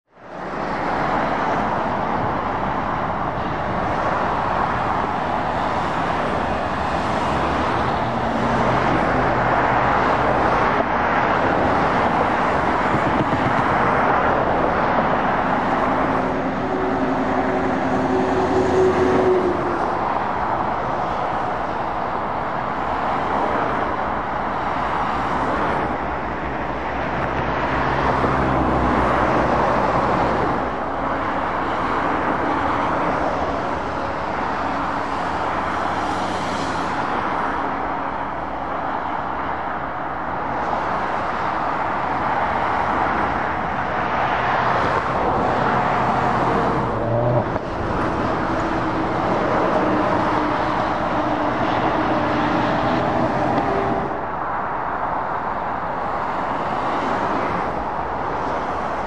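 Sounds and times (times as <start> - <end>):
traffic noise: 0.0 - 59.0.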